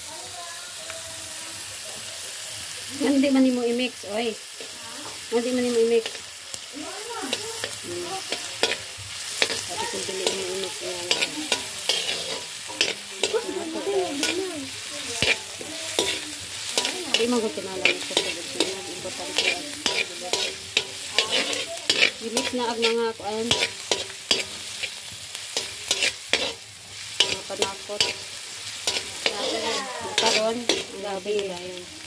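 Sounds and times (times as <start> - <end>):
food sizzling in a wok: 0.0 - 32.0
spatula scraping a wok: 3.0 - 32.0.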